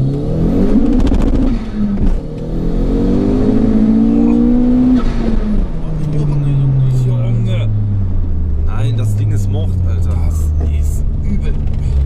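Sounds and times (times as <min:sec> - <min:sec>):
car engine revving under acceleration: 0:00.0 - 0:12.0.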